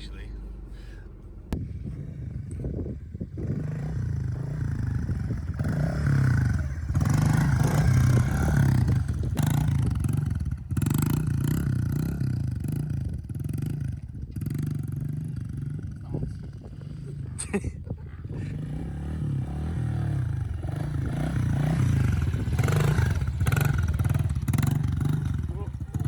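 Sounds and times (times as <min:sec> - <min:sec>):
dirt bike engine revving: 0:01.7 - 0:17.3, 0:18.0 - 0:26.0.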